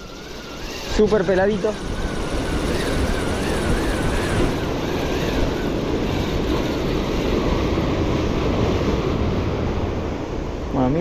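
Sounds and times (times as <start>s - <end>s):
faint wavering whine: 0.0s - 11.0s
surf washing: 0.0s - 11.0s
wind buffeting microphone: 0.0s - 11.0s.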